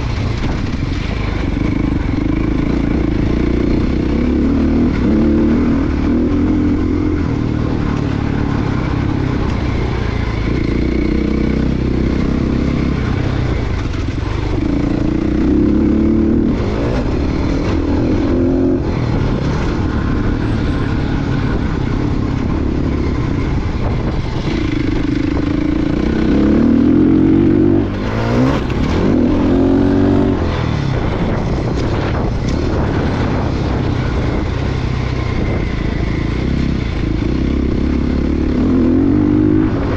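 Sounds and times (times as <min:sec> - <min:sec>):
dirt bike engine revving: 0:00.0 - 0:34.6, 0:35.2 - 0:39.9.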